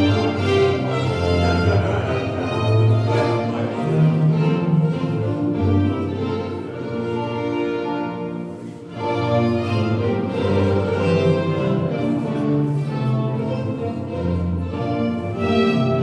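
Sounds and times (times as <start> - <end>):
bowed strings dance music: 0.0 - 16.0.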